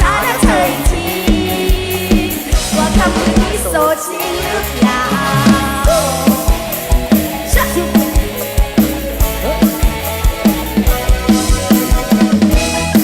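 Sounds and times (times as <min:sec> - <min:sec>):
drum kit beat: 0:00.0 - 0:13.0
instrumental melody lines: 0:00.0 - 0:13.0.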